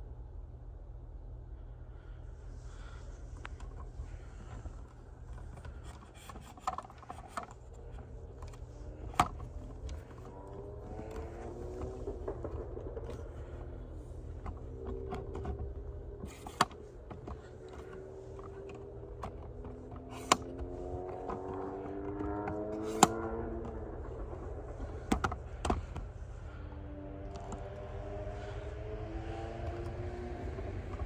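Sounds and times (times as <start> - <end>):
low steady rumble: 0.0 - 31.0.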